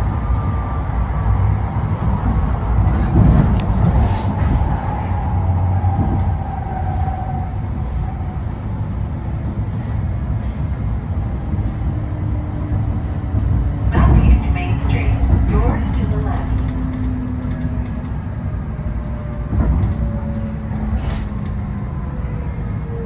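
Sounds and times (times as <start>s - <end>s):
light-rail car rumbling on track: 0.0s - 23.0s.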